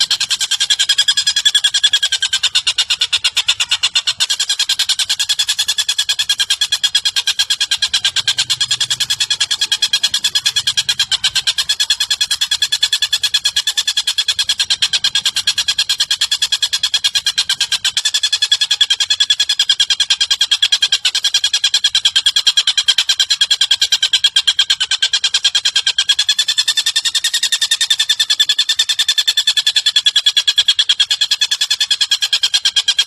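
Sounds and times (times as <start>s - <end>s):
bird trilling: 0.0s - 33.0s.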